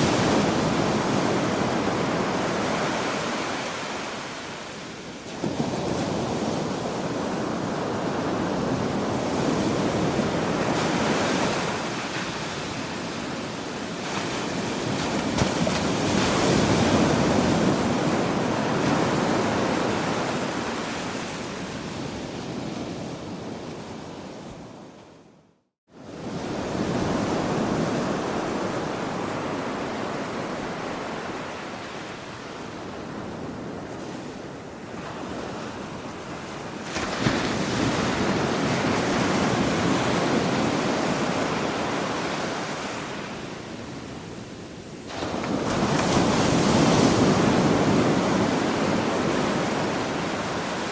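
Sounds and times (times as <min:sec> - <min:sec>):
ocean waves breaking on shore: 0:00.0 - 0:25.3, 0:25.9 - 0:50.9.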